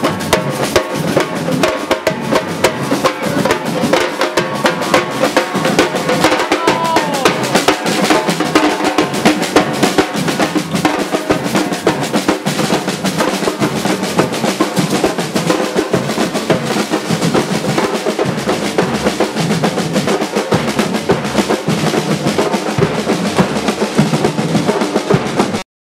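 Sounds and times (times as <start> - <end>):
snare drum rolls: 0.0 - 25.6
bass drum beats: 1.1 - 25.5.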